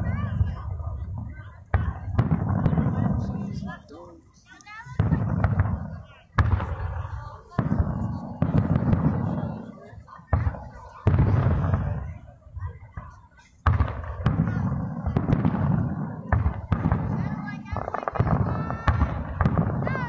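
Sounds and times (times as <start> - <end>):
firework shells booming: 0.0 - 3.8, 4.9 - 20.0.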